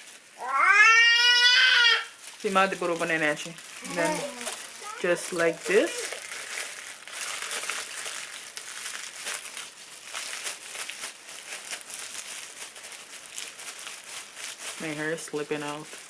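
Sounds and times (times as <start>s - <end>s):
aluminium foil crinkling: 0.0s - 16.0s.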